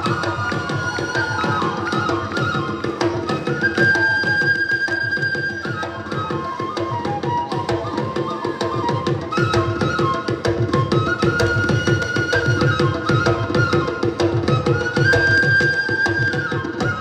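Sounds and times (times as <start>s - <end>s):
flute melody: 0.0s - 17.0s.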